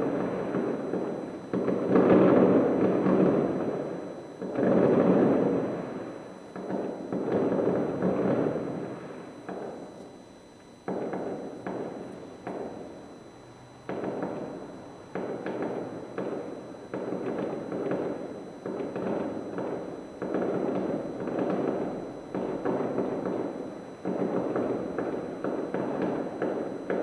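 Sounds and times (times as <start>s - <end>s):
distant fireworks bangs: 0.0s - 9.9s, 10.8s - 13.0s, 13.8s - 27.0s.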